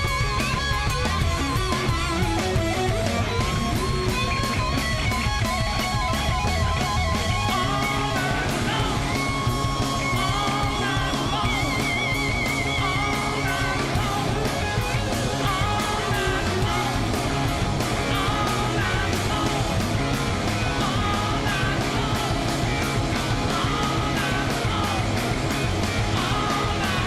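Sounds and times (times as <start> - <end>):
bass guitar: 0.0 - 27.0
drum beat: 0.0 - 27.0
lead guitar with vibrato: 0.0 - 27.0.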